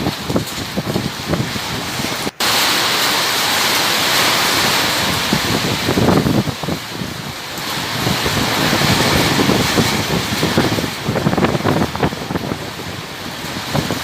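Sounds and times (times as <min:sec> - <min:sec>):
wind buffeting microphone: 0:00.0 - 0:02.4, 0:04.1 - 0:14.0
rain: 0:00.0 - 0:14.0
storm wind gusting: 0:00.0 - 0:14.0.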